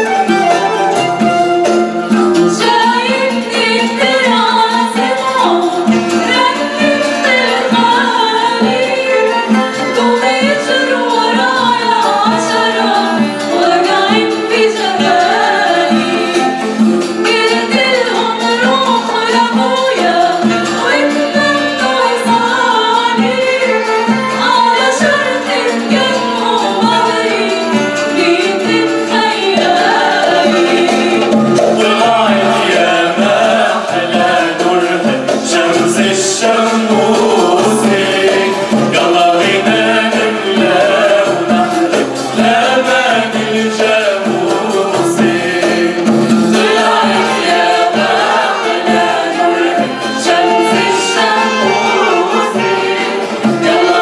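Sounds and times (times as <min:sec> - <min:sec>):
mixed choir singing: 0:00.0 - 0:54.0
violin: 0:00.0 - 0:54.0.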